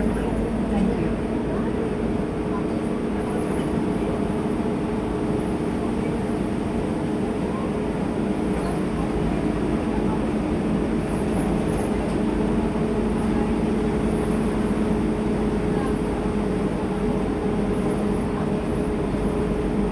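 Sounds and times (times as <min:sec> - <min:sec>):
bus engine hum: 0:00.0 - 0:19.9.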